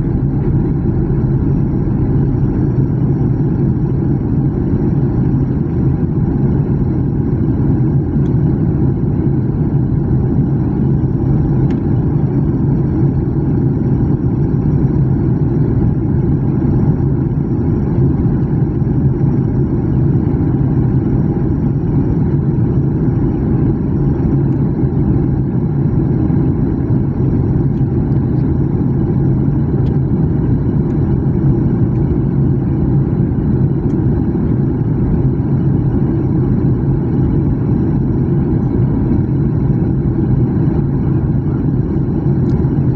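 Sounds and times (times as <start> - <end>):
constant low hum: 0.0 - 42.9
jet engine drone in cabin: 0.0 - 42.9.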